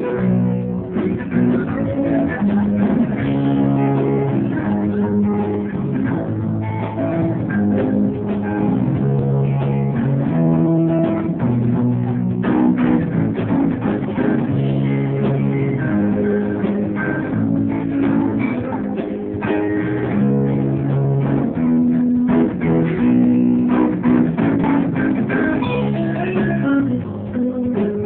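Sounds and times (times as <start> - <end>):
bass guitar: 0.0 - 28.0
guitar: 0.0 - 28.0
jazz band playing live: 0.0 - 28.0.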